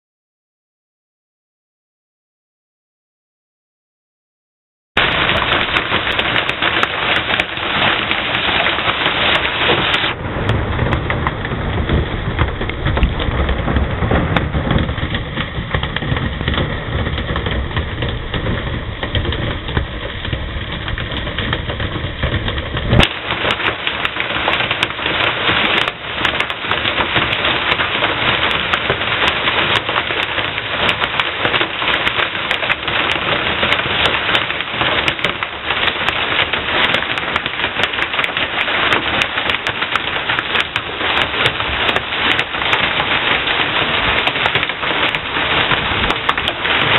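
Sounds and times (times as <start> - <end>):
deep rumble: 5.0 - 46.9
hailstones clicking: 5.0 - 46.9
heavy rain hissing: 5.0 - 46.9.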